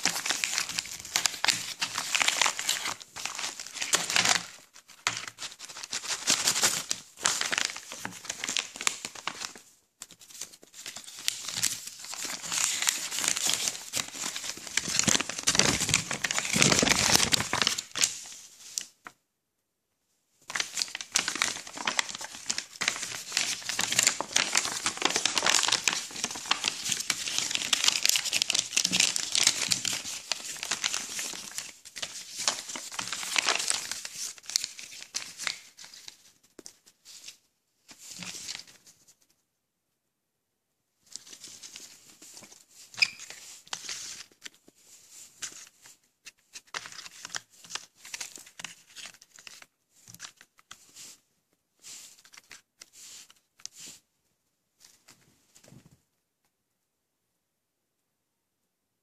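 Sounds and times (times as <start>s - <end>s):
plastic and paper crinkling and tearing: 0.0s - 19.0s, 20.4s - 39.2s, 41.1s - 51.2s, 51.8s - 54.0s.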